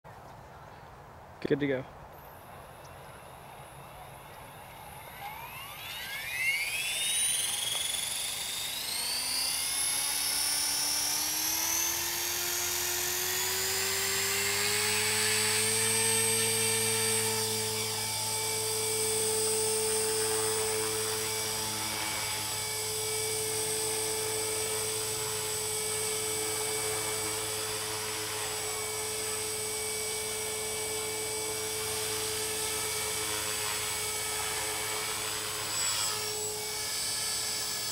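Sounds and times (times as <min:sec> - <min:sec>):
rc helicopter motor whine: 0:02.0 - 0:37.9.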